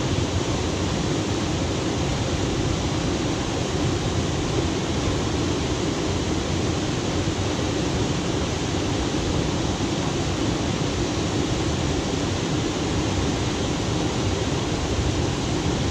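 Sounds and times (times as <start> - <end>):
water rushing: 0.0 - 15.9.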